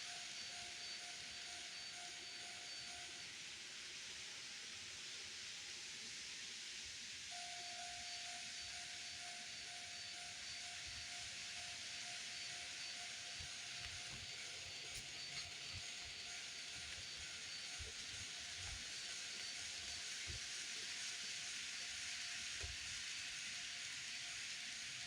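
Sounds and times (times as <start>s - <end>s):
constant hiss: 0.0s - 25.0s.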